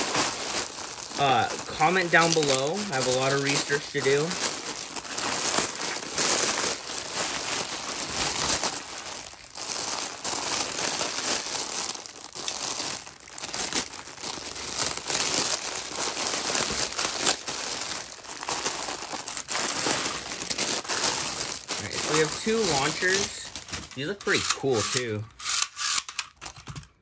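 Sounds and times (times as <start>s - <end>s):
bubble-wrap mailer crinkling: 0.0s - 25.2s
plastic bags crinkling: 0.0s - 25.3s.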